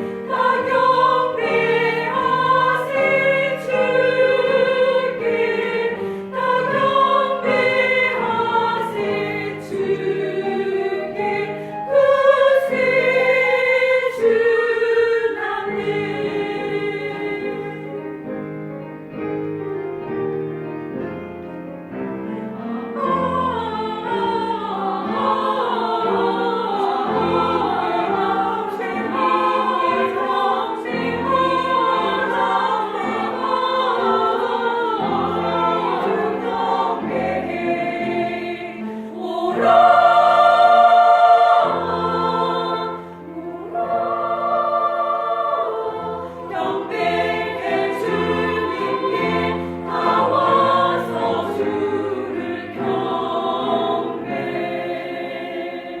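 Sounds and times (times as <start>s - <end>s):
vocal ensemble singing in harmony: 0.0s - 18.5s, 22.2s - 56.0s.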